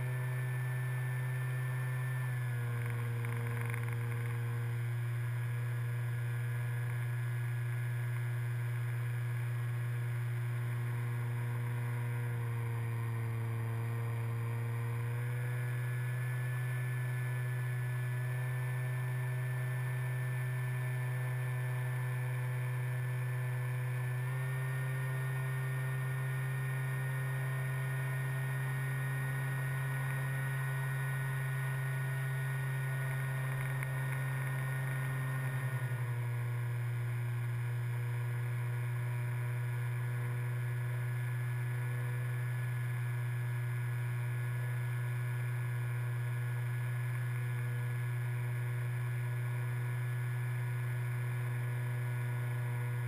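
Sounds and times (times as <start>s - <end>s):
model aircraft motor humming: 0.0s - 53.0s.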